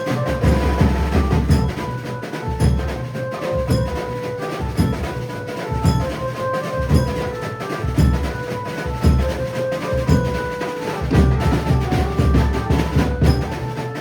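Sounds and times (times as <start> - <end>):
drums: 0.0 - 14.0.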